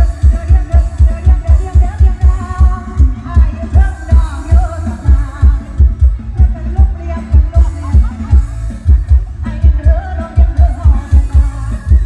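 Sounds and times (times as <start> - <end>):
heavy booming bass beat: 0.0 - 12.0
loud dance music with singing: 0.0 - 12.0.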